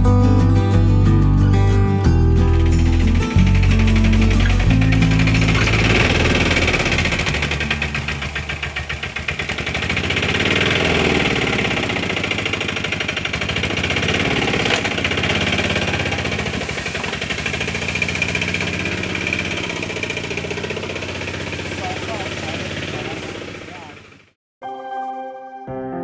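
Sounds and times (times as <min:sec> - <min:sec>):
small engine rattling: 0:02.3 - 0:24.4.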